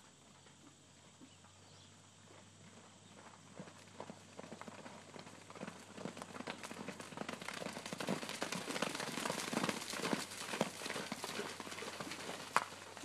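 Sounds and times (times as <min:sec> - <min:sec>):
horses galloping through mud: 0:00.0 - 0:13.0.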